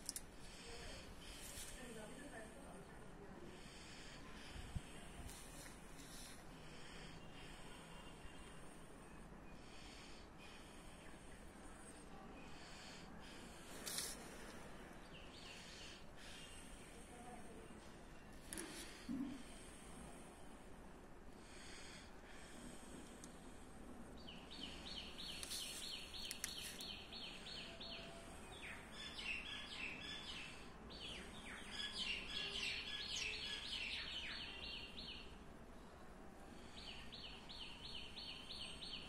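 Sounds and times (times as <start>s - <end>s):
faint steady background noise: 0.0s - 39.0s.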